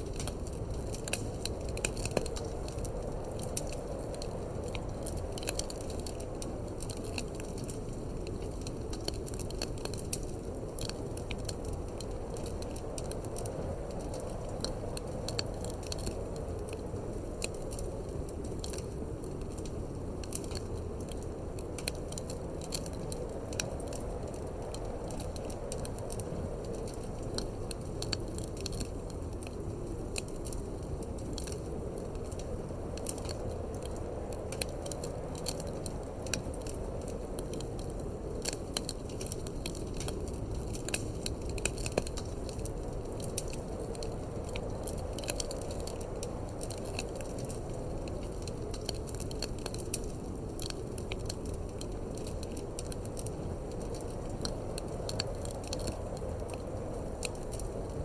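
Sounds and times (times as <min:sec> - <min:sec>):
low rush of wind: 0:00.0 - 0:58.0
wood fire crackling and popping: 0:00.0 - 0:58.0.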